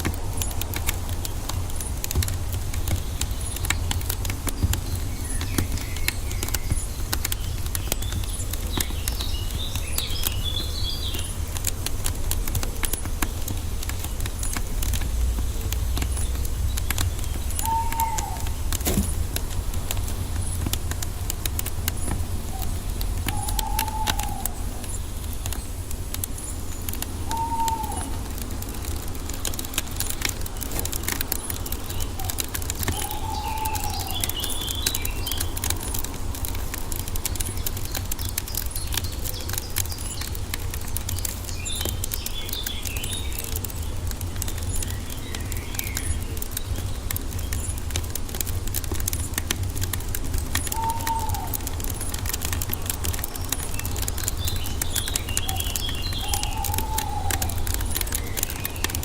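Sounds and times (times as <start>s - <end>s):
small birds chirping: 0.0s - 59.0s
wood fire crackling and popping: 0.0s - 59.0s
bird calls: 0.1s - 59.0s.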